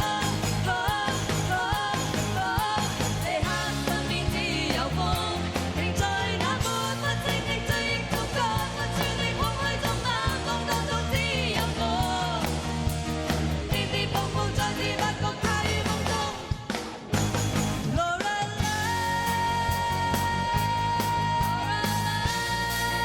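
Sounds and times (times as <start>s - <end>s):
band with steady drum beat: 0.0s - 23.0s
person singing pop-rock song: 0.0s - 23.0s.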